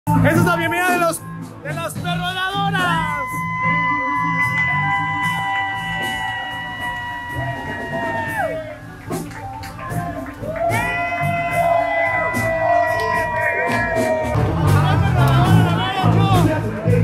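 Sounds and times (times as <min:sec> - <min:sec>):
live rock band playing: 0:00.1 - 0:17.0.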